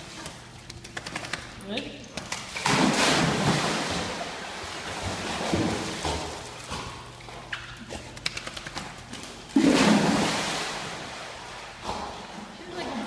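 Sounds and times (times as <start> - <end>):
pool water splashing: 2.4 - 13.0.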